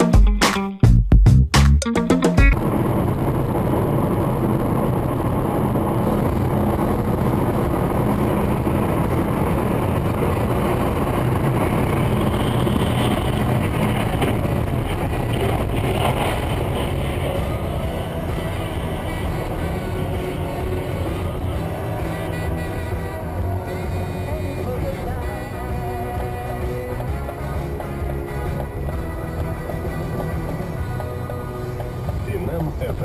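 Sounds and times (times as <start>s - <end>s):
road and engine noise in car: 2.4s - 33.0s.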